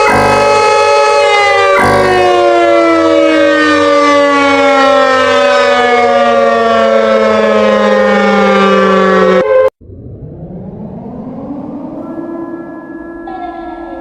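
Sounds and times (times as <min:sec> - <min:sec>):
emergency alert siren chord: 0:00.0 - 0:14.0.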